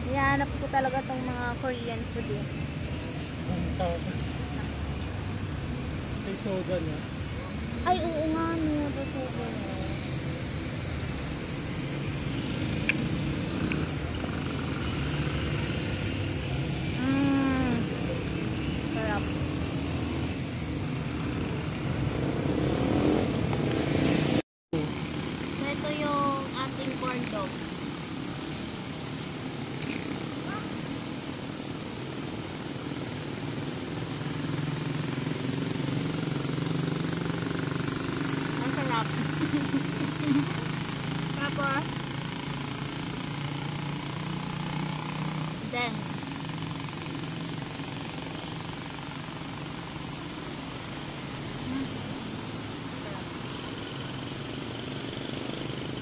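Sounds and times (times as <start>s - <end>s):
street noise hum: 0.0s - 56.0s
traffic engine rumble: 0.0s - 56.0s.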